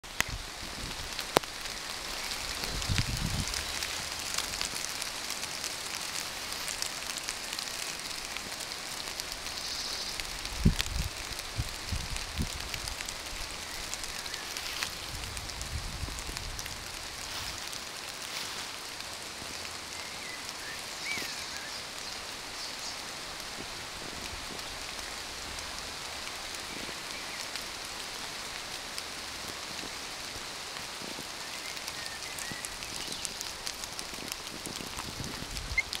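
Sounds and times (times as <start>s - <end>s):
rain pattering in forest: 0.0s - 36.0s.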